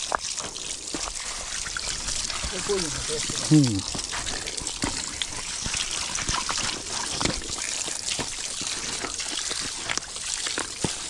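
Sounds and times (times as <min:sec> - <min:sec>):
rainwater trickling: 0:00.0 - 0:11.0.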